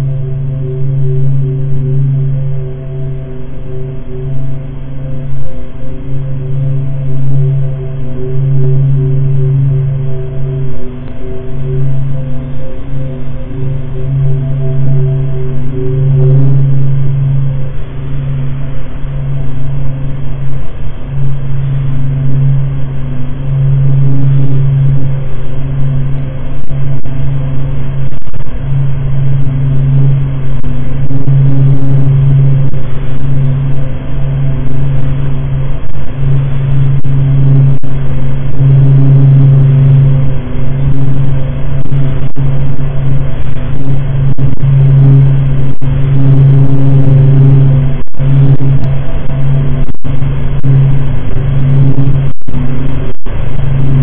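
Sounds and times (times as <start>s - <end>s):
low droning hum: 0.0s - 54.0s.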